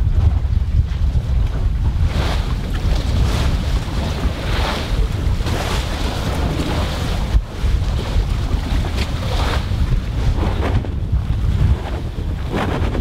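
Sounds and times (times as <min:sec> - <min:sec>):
wind buffeting microphone: 0:00.0 - 0:13.0
waves splashing against raft: 0:00.9 - 0:13.0.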